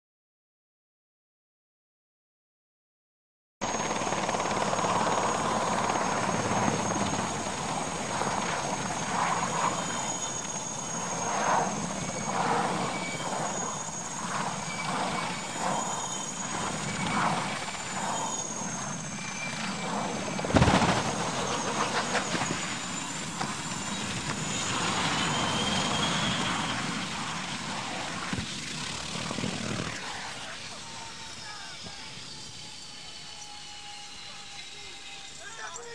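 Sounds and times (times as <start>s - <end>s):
helicopter rotor and engine: 3.6s - 35.9s
high whine: 3.7s - 35.9s.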